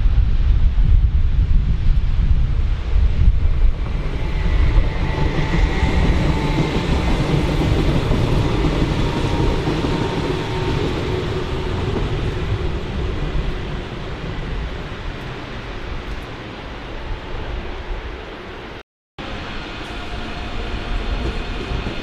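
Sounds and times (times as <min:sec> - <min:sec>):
train rail rumble: 0:00.0 - 0:22.0.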